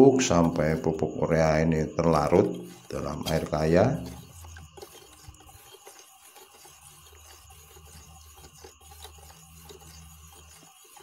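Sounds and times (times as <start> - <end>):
plastic spoon stirring in tub: 0.0 - 11.0.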